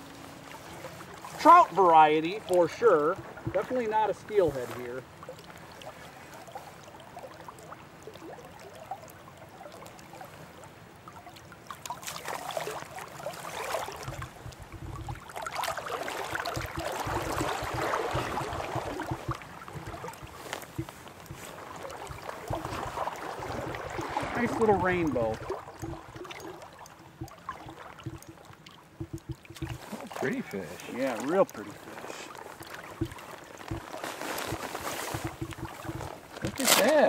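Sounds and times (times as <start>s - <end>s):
river water splashing: 0.0s - 37.0s.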